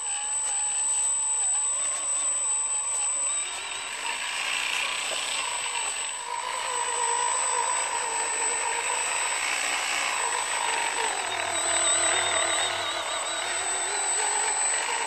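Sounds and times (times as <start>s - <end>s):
electric motor and gearbox whining: 0.0s - 15.0s.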